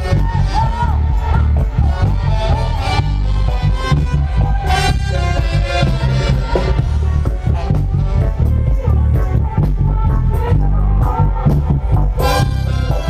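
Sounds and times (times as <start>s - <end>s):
drums: 0.0s - 13.0s
heavy bass line: 0.0s - 13.0s
live reggae band playing: 0.0s - 13.0s.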